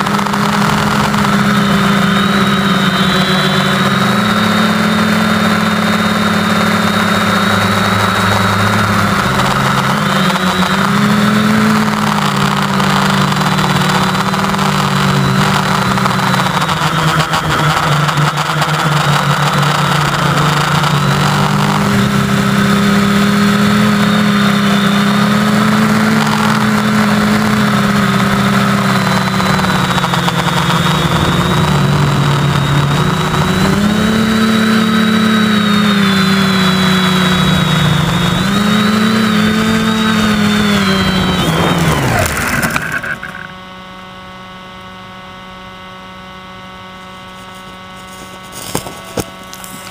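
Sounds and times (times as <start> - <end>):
drone motors and propellers buzzing: 0.0 - 49.9.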